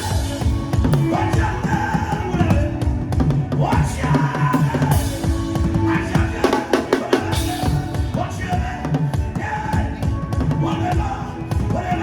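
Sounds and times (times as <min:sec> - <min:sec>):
band holding notes: 0:00.0 - 0:12.0
drum kit played fast: 0:00.0 - 0:12.0.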